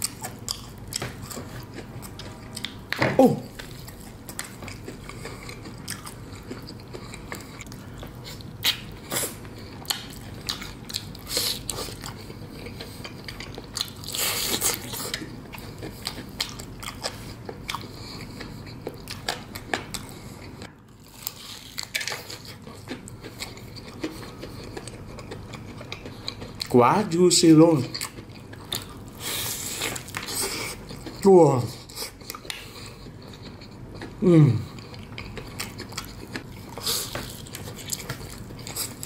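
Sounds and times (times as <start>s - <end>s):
crunching fried chicken: 3.5s - 39.0s.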